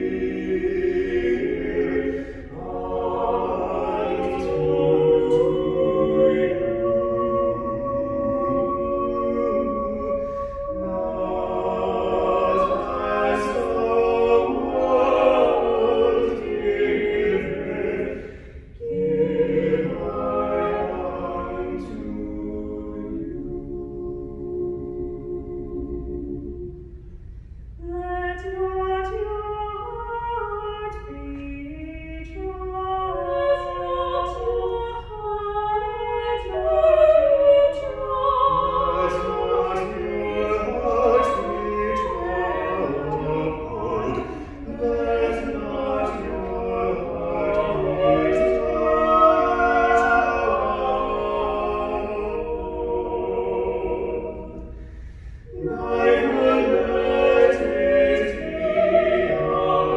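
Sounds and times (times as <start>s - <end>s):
vocal quartet singing unaccompanied: 0.0s - 59.9s.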